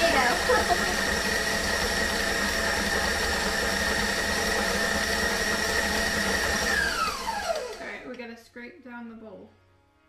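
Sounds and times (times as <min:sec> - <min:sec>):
stand mixer motor whining: 0:00.0 - 0:08.1.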